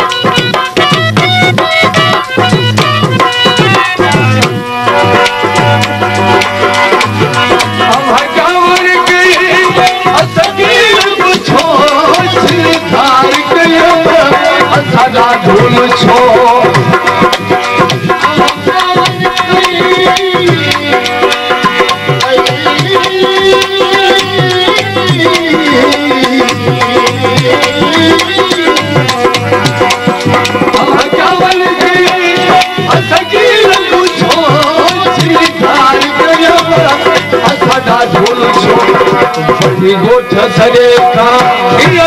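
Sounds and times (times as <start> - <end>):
hand drum beating: 0.0 - 42.0.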